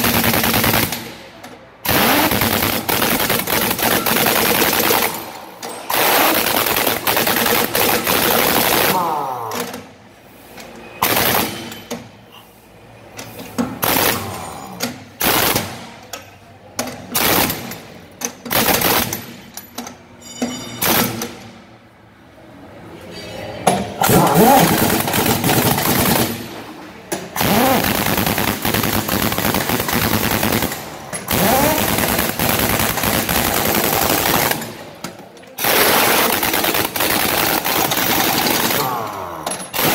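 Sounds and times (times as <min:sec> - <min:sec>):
pneumatic impact wrench rattling: 0:00.0 - 0:12.4, 0:13.1 - 0:21.6, 0:23.7 - 0:39.9.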